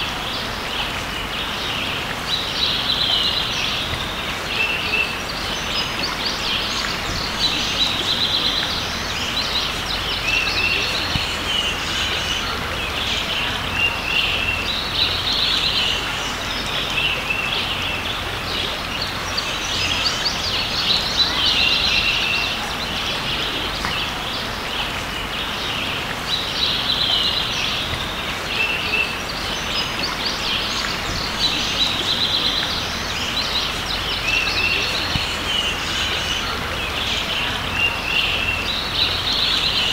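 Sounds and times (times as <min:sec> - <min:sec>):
creek water rushing: 0:00.0 - 0:39.9
songbirds singing: 0:00.0 - 0:39.9.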